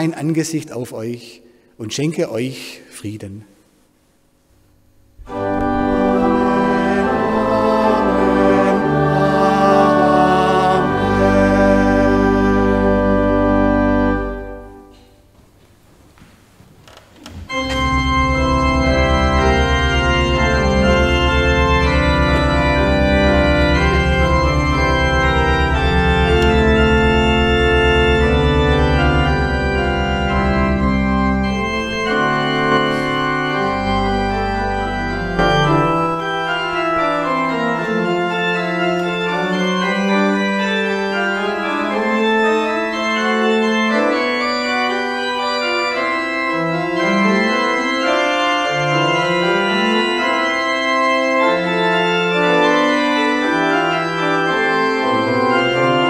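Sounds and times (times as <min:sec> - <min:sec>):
church organ playing: 0:00.0 - 0:03.2, 0:04.6 - 0:15.6, 0:17.2 - 0:56.0.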